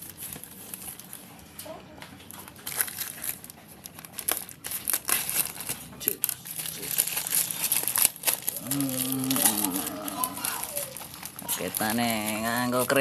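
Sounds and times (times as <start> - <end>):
plastic wrapping crinkling and tearing: 0.0 - 13.0.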